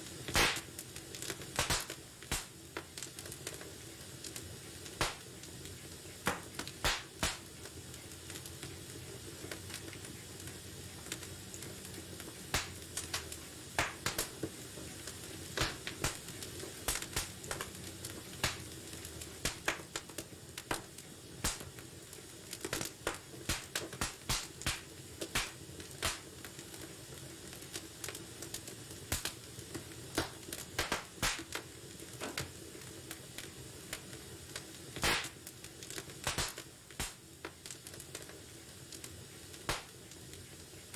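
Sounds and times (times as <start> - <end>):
fire pops and snaps: 0.0 - 40.9
low hiss of burning: 0.0 - 40.9.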